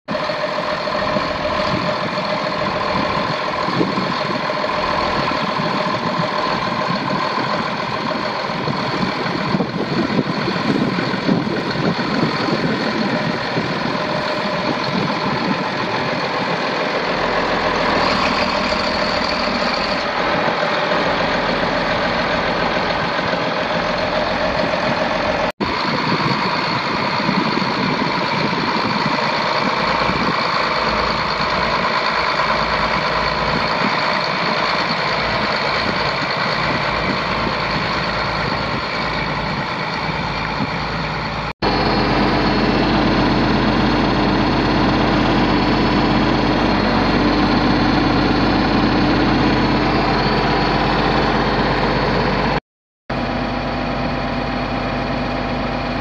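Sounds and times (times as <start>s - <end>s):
constant whine: 0.1s - 56.0s
tractor diesel engine running: 0.1s - 56.0s.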